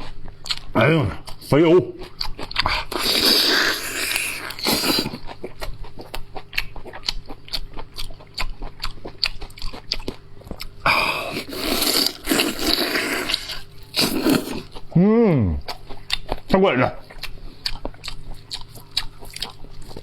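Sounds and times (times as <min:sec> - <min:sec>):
close chewing with wet mouth clicks: 0:00.0 - 0:14.9, 0:15.7 - 0:20.0.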